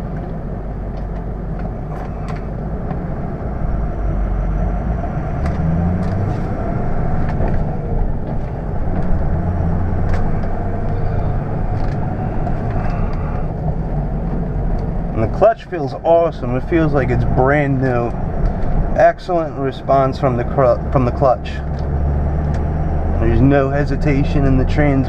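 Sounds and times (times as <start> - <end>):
diesel truck engine rumble: 0.0 - 25.0.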